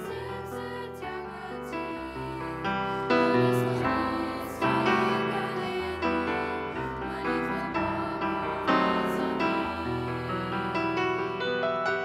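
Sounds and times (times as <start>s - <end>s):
choir of young voices singing: 0.0s - 11.8s
piano chords: 0.0s - 12.0s.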